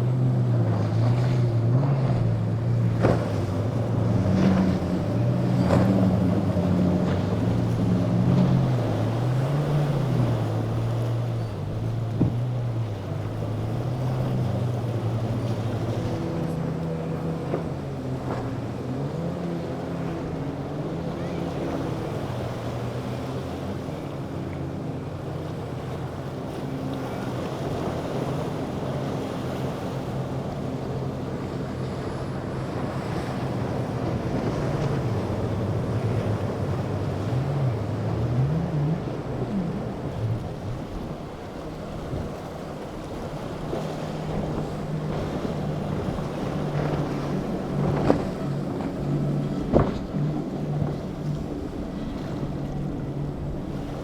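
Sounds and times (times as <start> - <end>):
motorboat engines running: 0.0 - 54.0
waves washing: 0.0 - 54.0.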